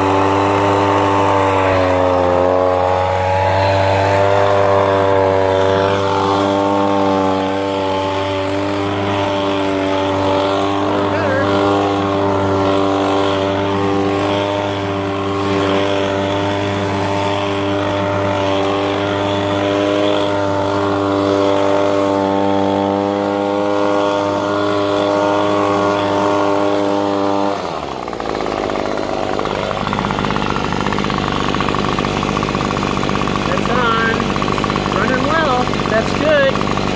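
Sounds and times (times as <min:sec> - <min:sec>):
leaf blower engine running: 0:00.0 - 0:36.9.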